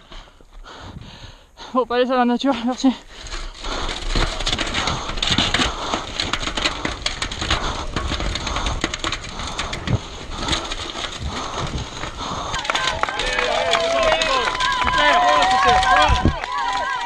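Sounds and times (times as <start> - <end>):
bike rattling: 0.0 - 17.0
bike tyres crunching over dirt: 2.0 - 17.0.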